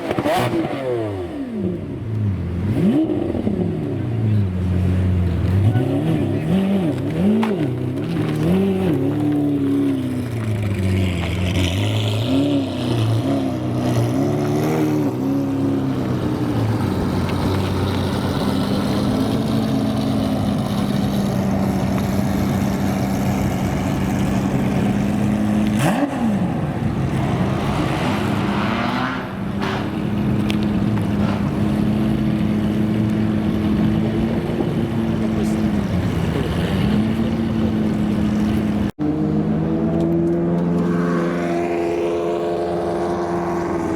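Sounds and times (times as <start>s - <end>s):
sports car engines at low revs: 0.0s - 43.9s.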